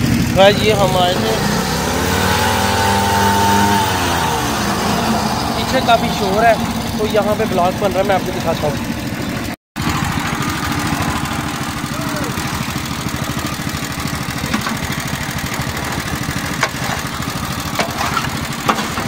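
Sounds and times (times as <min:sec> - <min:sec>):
machine engine vibrating rattle: 0:00.0 - 0:19.0.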